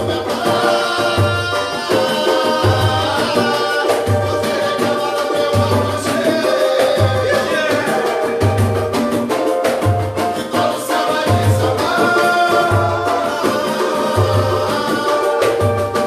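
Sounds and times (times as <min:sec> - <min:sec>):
hand percussion: 0:00.0 - 0:16.0
people singing: 0:00.0 - 0:16.0.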